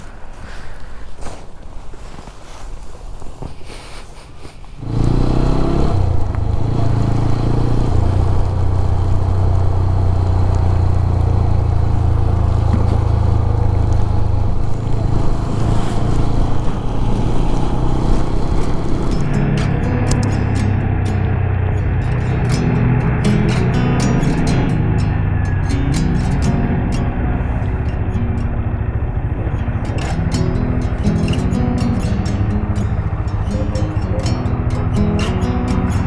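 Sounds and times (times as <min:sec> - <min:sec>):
motorcycle engine running: 0:04.8 - 0:36.0.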